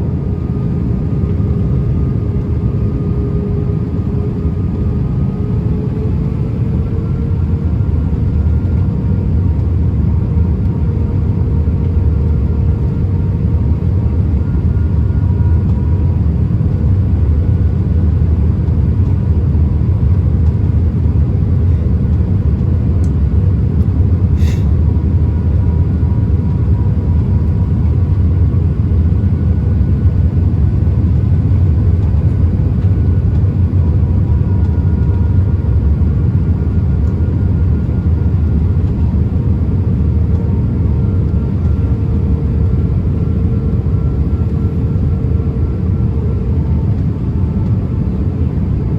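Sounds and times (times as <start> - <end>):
engine and airflow rumble: 0.0 - 48.9.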